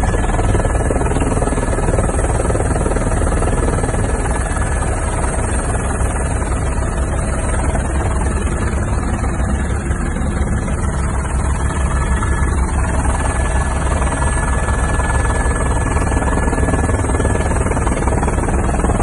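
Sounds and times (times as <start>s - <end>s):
helicopter rotor and engine rumble: 0.0s - 19.0s.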